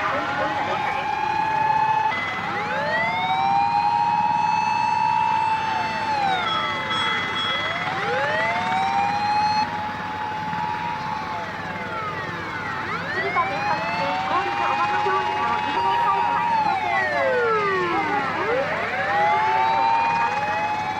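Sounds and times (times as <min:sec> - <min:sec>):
emergency vehicle siren wailing: 0:00.0 - 0:20.9.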